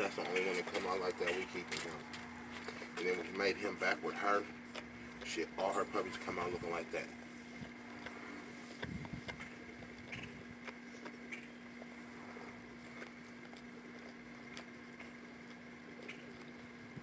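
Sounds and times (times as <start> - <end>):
faint steady hum: 0.0 - 17.0
puppies suckling wet clicks: 0.0 - 17.0.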